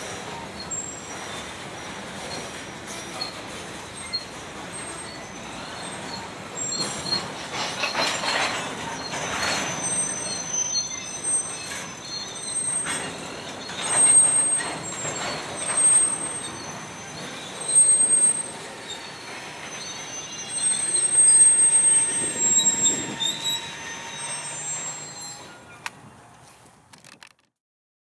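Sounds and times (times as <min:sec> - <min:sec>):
high wheel squealing: 0:00.0 - 0:26.4
freight cars rolling on rails: 0:00.0 - 0:27.5.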